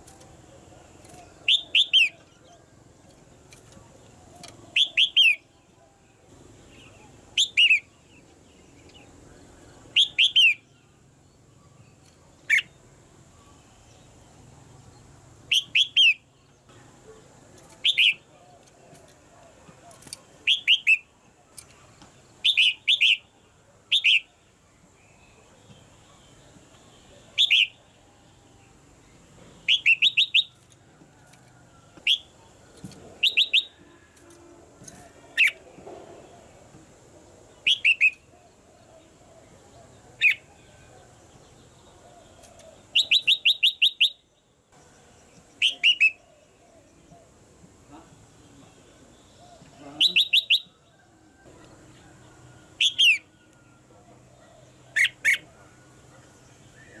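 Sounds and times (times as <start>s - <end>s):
bird calling: 0.0s - 2.7s, 3.5s - 5.5s, 6.7s - 8.0s, 8.9s - 10.8s, 11.6s - 13.8s, 15.4s - 16.3s, 17.0s - 24.4s, 25.2s - 28.0s, 29.6s - 30.6s, 31.8s - 44.3s, 45.4s - 57.0s.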